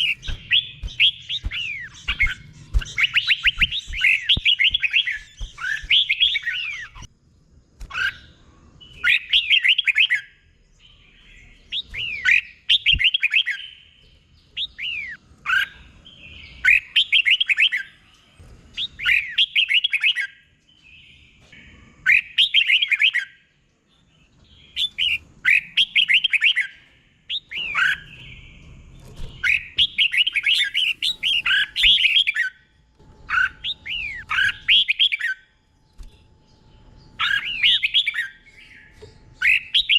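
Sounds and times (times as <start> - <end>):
bird singing warbling phrases: 0.0 - 7.2, 7.9 - 39.9.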